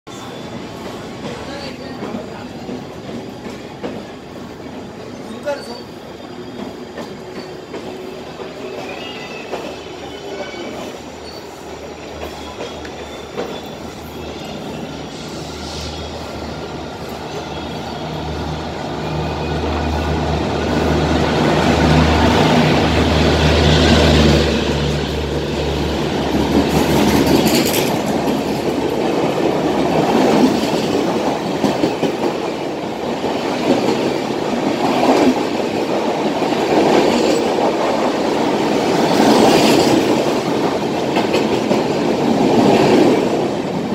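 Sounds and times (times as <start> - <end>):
train wheel clatter: 0.2 - 4.9, 5.6 - 16.1, 20.9 - 43.9
electric locomotive humming: 0.2 - 43.9.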